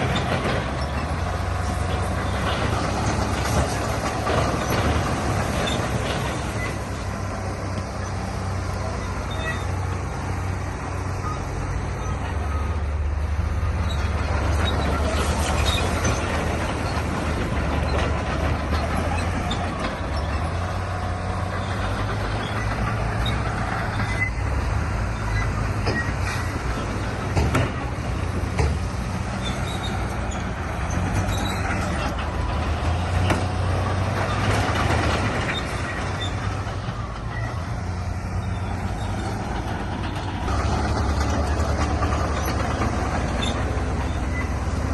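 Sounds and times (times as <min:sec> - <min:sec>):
rattling and scraping: 0:00.0 - 0:09.7, 0:13.7 - 0:44.9
heavy diesel machinery running: 0:00.0 - 0:44.9.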